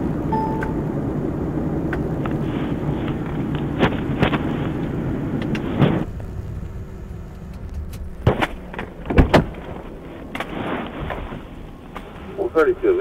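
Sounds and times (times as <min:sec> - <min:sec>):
car running noise: 0:00.0 - 0:13.0.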